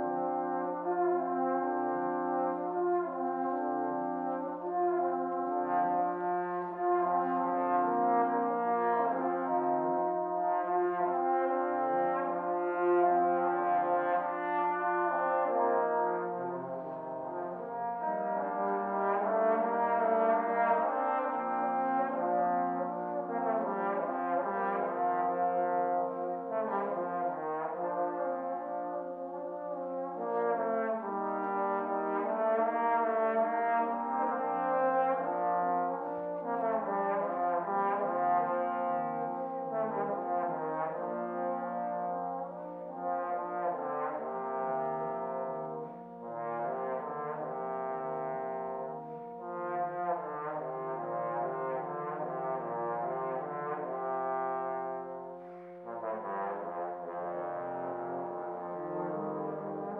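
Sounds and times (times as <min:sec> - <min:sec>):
trombones playing held chords: 0:00.0 - 0:59.9.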